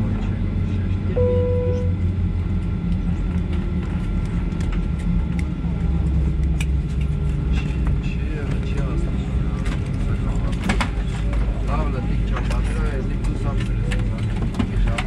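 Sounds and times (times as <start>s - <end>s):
faint passenger voices: 0.0s - 15.0s
aircraft cabin hum: 0.1s - 15.0s.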